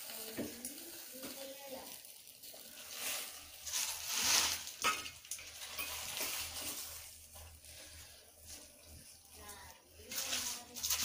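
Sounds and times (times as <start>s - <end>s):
wet leaves rustling and hissing: 0.0s - 11.0s.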